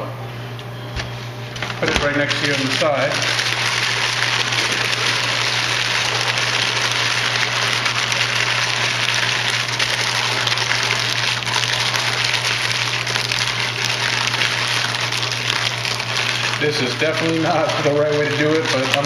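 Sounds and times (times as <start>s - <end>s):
paper crinkling and rustling: 1.5s - 19.0s.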